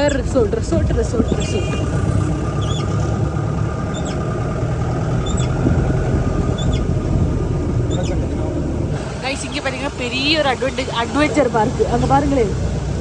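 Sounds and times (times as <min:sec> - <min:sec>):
car engine running: 0:00.0 - 0:13.0
road rumble: 0:00.0 - 0:13.0.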